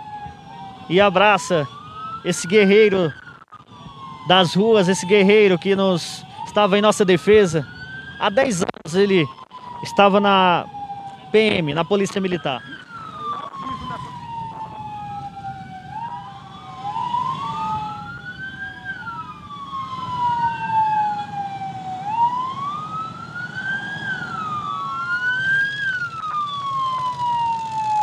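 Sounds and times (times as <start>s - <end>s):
wailing sirens: 0.0s - 28.0s.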